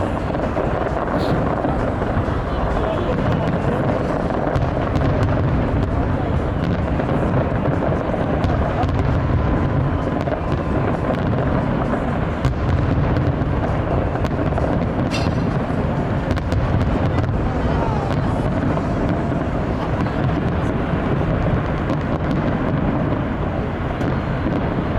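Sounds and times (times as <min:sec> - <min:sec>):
dense crowd of voices: 0:00.0 - 0:24.9
distant fireworks popping and crackling: 0:00.0 - 0:24.9.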